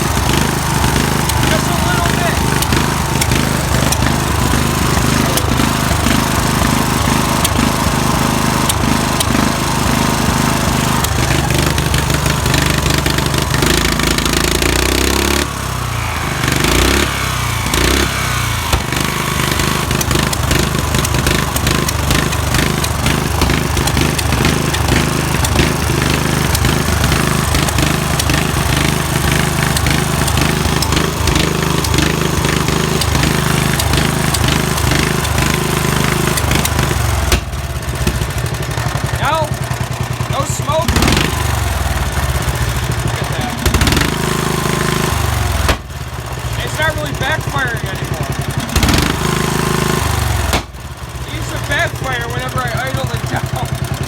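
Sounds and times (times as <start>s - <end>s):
engine backfire pops: 0.0s - 54.0s
lawn tractor engine running: 0.0s - 54.0s.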